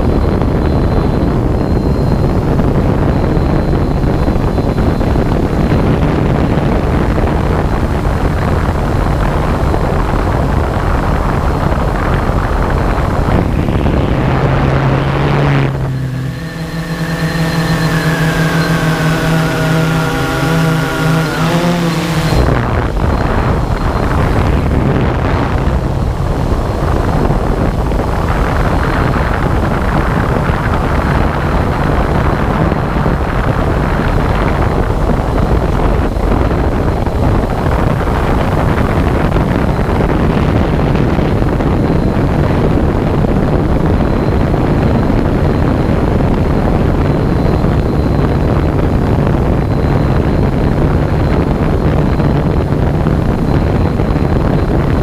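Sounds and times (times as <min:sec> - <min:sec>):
aircraft motor drone: 0:00.0 - 0:55.0
wind rushing on microphone: 0:00.0 - 0:55.0.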